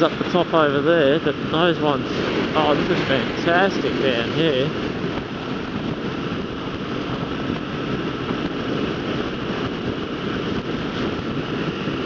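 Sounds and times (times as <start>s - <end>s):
motorcycle engine running: 0.0s - 12.0s
wind roaring over microphone: 0.0s - 12.0s.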